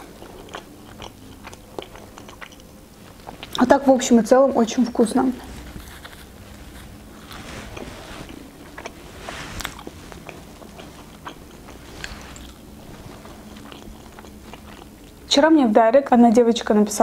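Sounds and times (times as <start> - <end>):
person chewing pizza: 0.0 - 3.8, 5.4 - 15.3.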